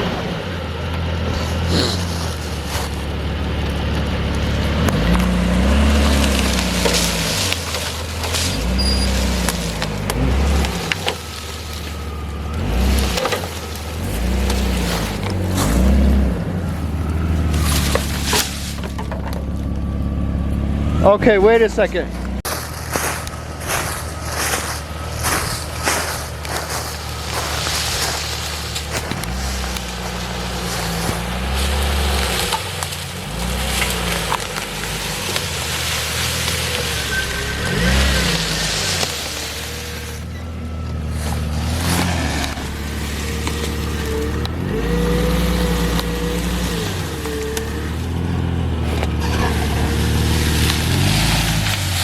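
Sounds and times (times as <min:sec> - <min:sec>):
low engine hum: 0:00.0 - 0:52.0
crunching footsteps: 0:00.9 - 0:52.0.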